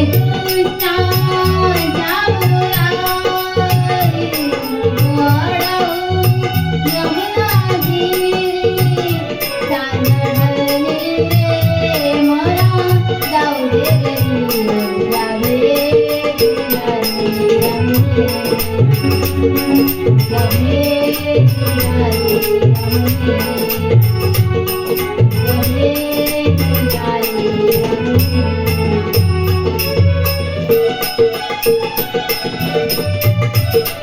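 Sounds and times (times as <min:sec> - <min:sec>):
wavering folk melody: 0:04.2 - 0:34.0.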